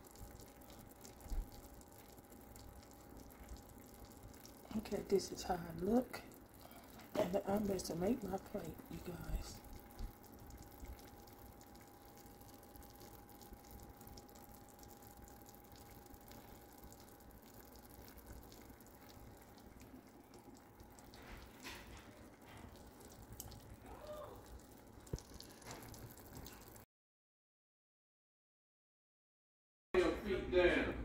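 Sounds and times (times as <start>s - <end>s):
faint steady hum: 0.0s - 26.8s.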